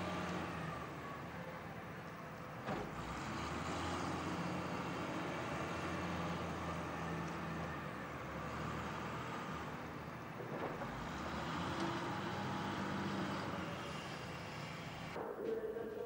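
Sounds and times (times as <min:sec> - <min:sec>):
excavator diesel engine running: 0:00.0 - 0:15.2.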